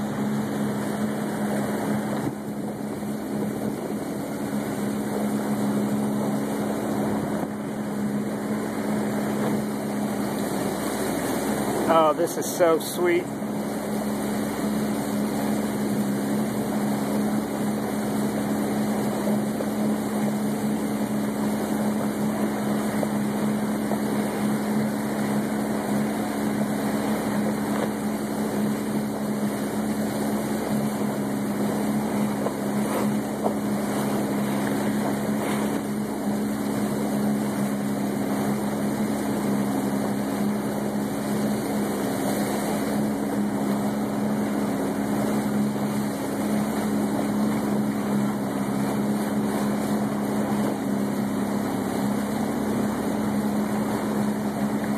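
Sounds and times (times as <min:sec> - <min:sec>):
jet ski engine idling: 0:00.0 - 0:54.9.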